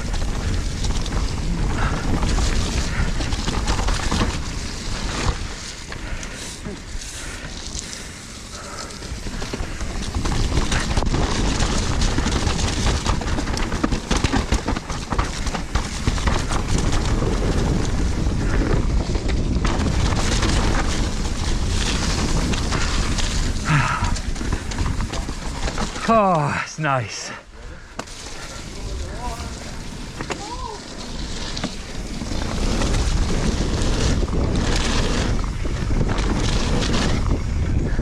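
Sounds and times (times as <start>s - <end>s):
bike chain and frame rattling: 0.0s - 26.6s, 27.3s - 38.0s
tyres on dirt: 0.0s - 38.0s
wind rushing over microphone: 0.0s - 38.0s.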